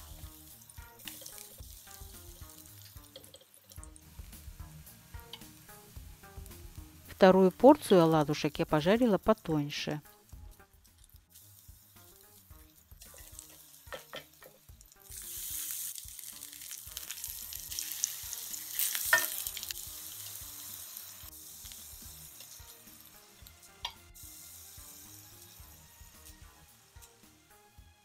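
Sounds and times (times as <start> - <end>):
batter sizzling in hot oil: 0.0 - 28.0.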